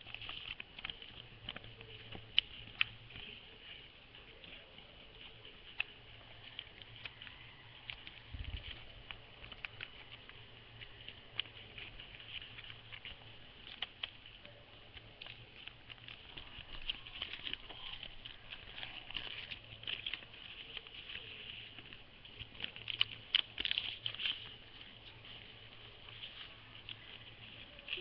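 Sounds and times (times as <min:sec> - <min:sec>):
paper rustling and crackling: 0:00.0 - 0:28.0.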